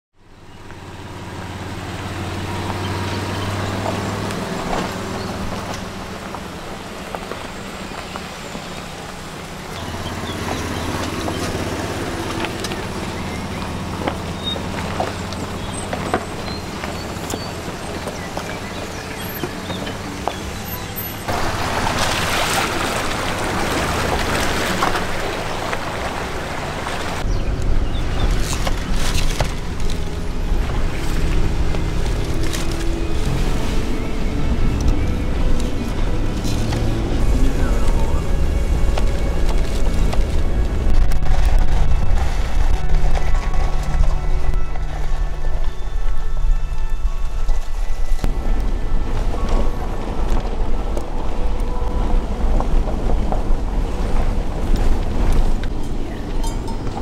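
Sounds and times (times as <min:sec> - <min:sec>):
vehicle engine hum: 0:00.1 - 0:57.0
deep rumble: 0:09.7 - 0:57.0.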